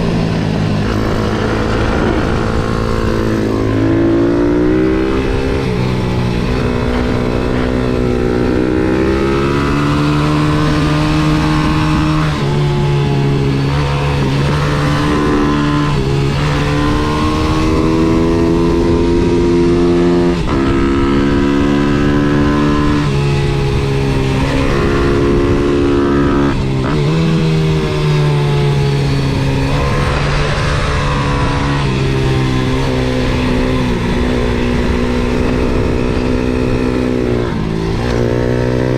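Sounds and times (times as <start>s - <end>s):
pit bike engine accelerating: 0.0s - 38.9s.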